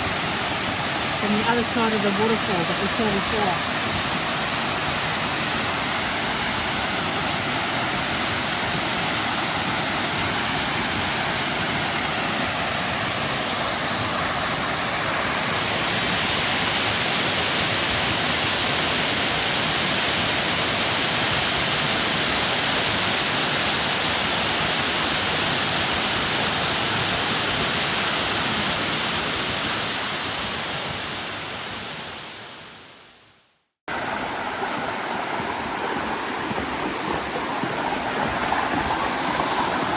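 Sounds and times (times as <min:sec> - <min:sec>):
waterfall rushing: 0:00.0 - 0:32.8, 0:33.9 - 0:39.9.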